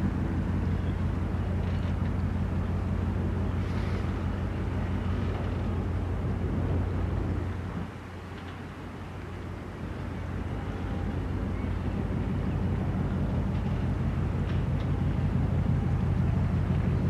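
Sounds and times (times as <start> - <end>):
ship engines humming: 0.0 - 17.0.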